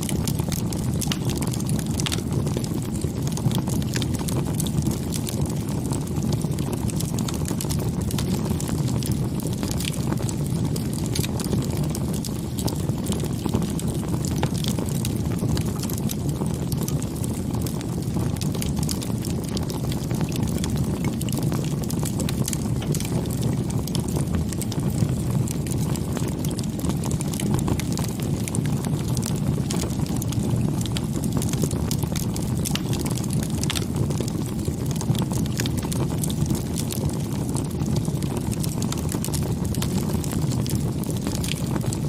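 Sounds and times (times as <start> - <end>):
campfire crackling and popping: 0.0 - 42.0
fire low rumble: 0.0 - 42.0.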